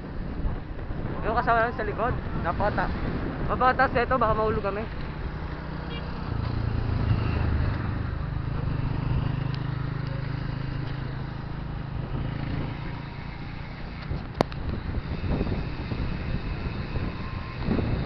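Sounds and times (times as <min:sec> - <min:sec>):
bicycle road noise: 0:00.0 - 0:18.0
traffic passing: 0:00.0 - 0:18.0
wind rumbling on microphone: 0:00.0 - 0:18.0.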